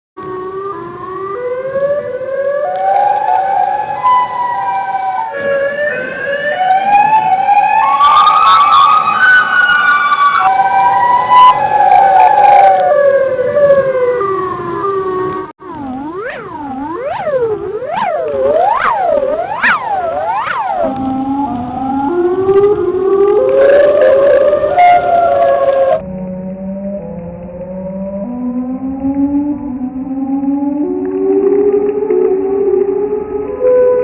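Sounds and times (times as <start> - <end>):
tornado warning siren: 0.2 - 34.0.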